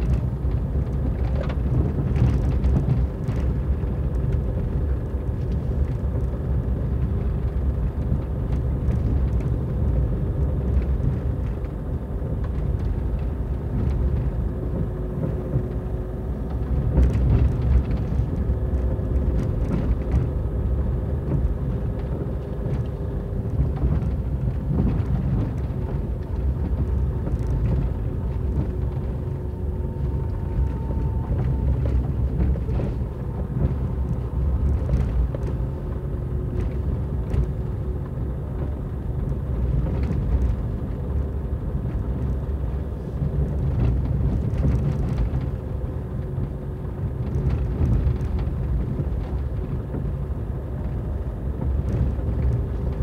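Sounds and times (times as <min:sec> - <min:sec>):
low rumble of tyres and engine: 0:00.0 - 0:53.0.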